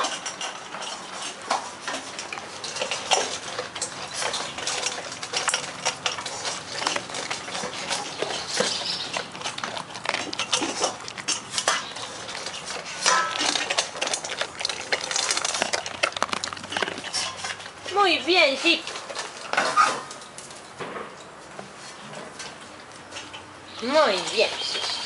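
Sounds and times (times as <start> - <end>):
dog eating from metal bowl: 0.0 - 25.0.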